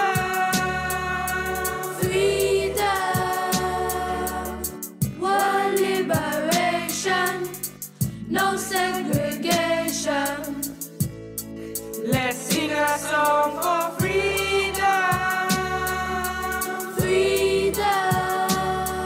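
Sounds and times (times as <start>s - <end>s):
bass line: 0.0s - 19.0s
reggae song with vocals: 0.0s - 19.0s
steady hi-hat: 0.0s - 19.0s.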